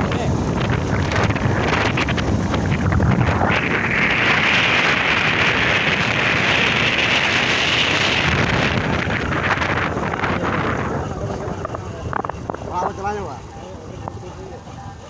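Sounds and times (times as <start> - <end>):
motorcycle rumble: 0.0 - 15.0
wind buffeting microphone: 0.0 - 15.0.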